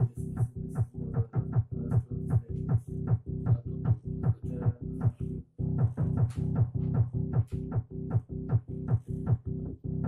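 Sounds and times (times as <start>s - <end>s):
buzzing bass synth: 0.0s - 10.0s
kick drum: 0.0s - 10.0s.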